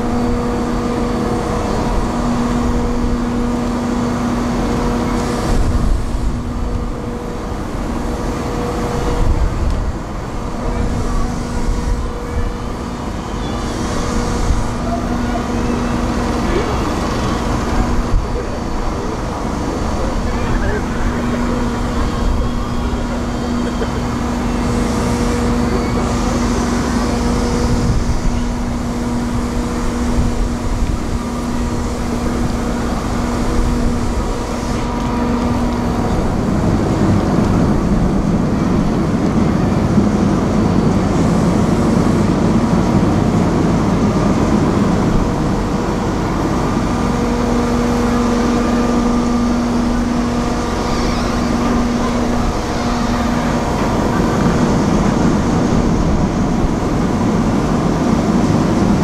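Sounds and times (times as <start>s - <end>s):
diesel engine hum: 0.0s - 59.0s
rough engine rumble: 0.0s - 59.0s.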